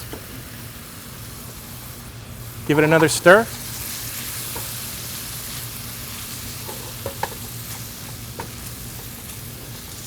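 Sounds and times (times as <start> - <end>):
food sizzling in a skillet: 0.0 - 10.0.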